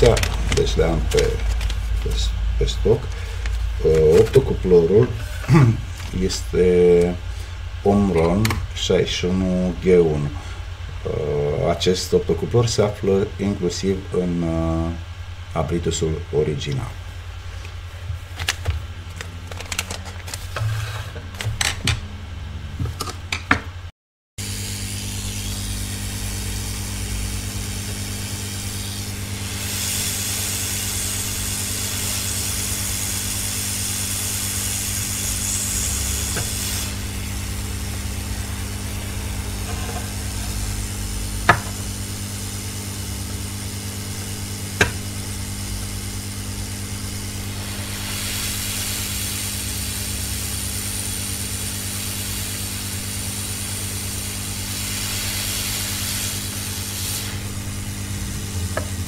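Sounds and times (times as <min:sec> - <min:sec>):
hot air hissing: 0:00.0 - 0:15.0, 0:24.4 - 0:59.0.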